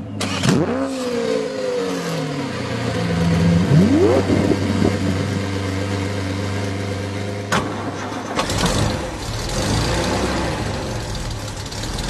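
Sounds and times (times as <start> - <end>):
engine starting and running: 0.0 - 12.0.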